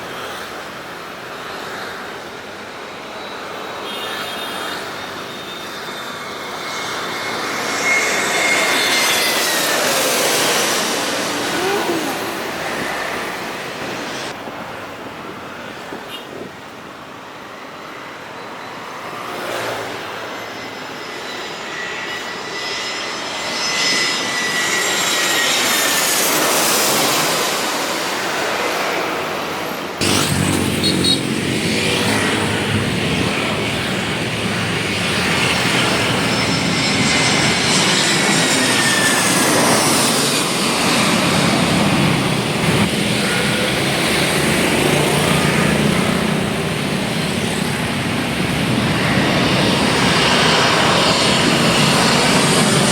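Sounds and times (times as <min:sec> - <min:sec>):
jet airliner whining on landing: 0:00.1 - 0:52.9.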